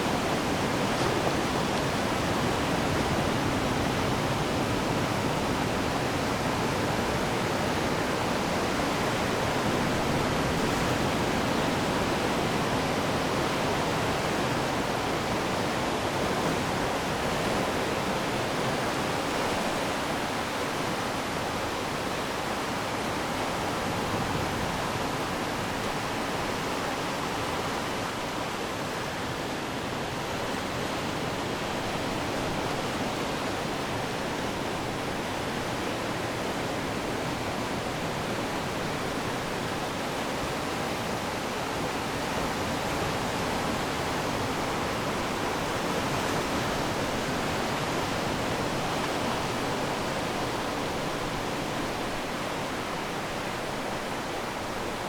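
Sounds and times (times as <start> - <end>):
ocean surf on shore: 0.0 - 55.0.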